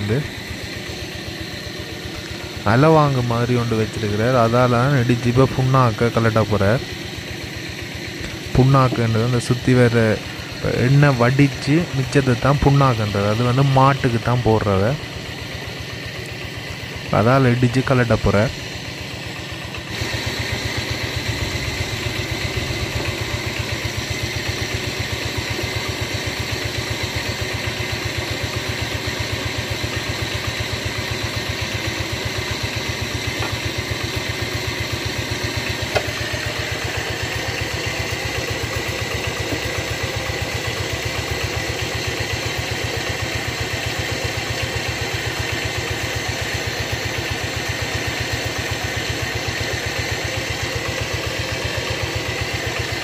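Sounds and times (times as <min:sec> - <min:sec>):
small engine running: 0:00.0 - 0:53.0.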